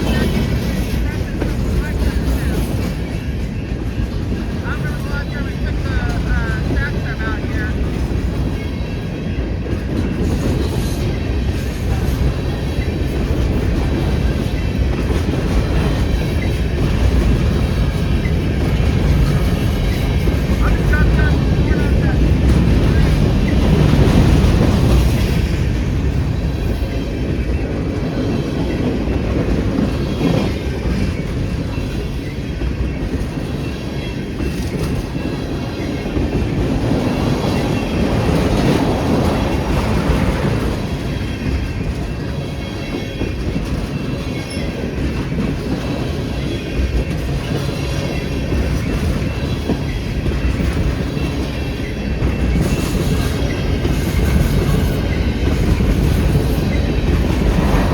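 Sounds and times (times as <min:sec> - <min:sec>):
clickety-clack over rail joints: 0:00.0 - 0:57.9
train wheels rumbling on rails: 0:00.0 - 0:57.9.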